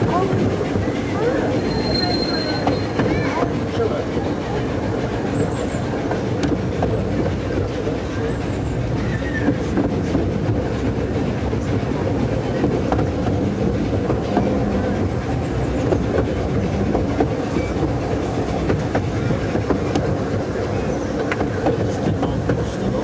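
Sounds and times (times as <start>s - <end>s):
miniature train rumbling: 0.0s - 23.0s
wheels clicking over rails: 0.0s - 23.0s.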